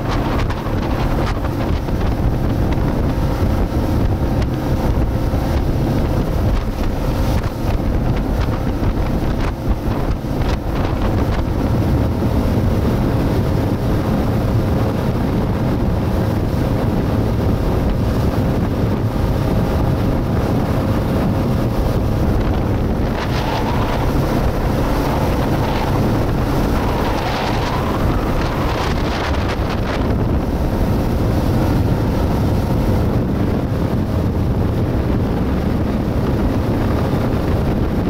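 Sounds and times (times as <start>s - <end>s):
rush of boat wake: 0.0s - 38.0s
speedboat engine drone: 0.0s - 38.0s
wind buffeting microphone: 0.0s - 38.0s.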